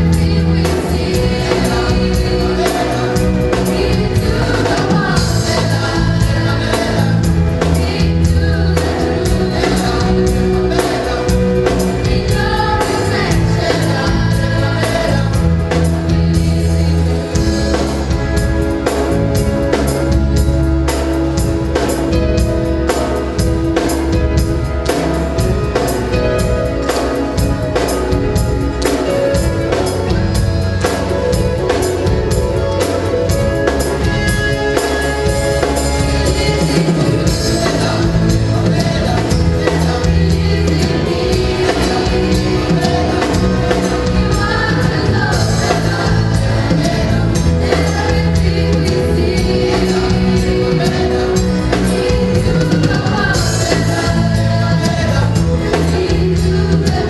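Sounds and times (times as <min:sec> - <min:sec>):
children's choir singing gospel: 0:00.0 - 0:57.0
live band with drum beat: 0:00.0 - 0:57.0.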